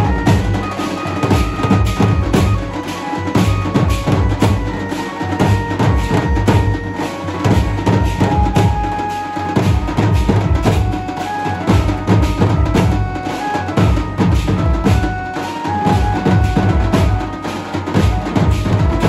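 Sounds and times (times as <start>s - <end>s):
large drums playing fast rhythm: 0.0s - 19.0s
melody of held notes: 0.0s - 19.0s.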